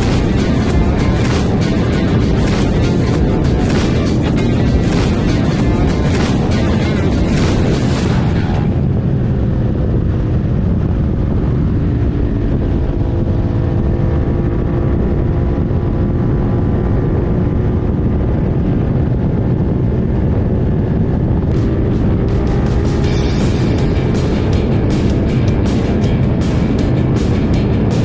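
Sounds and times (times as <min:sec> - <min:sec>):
loud low rumble: 0:00.0 - 0:28.0
motorcycle engine running: 0:00.0 - 0:28.0.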